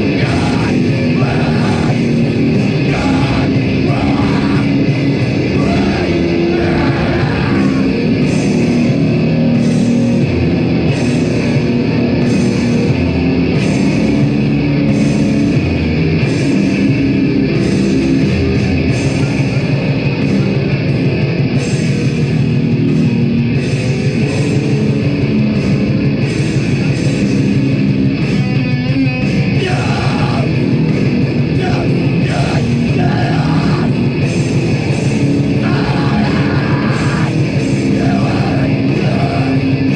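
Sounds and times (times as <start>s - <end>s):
heavy band playing live: 0.0s - 39.9s.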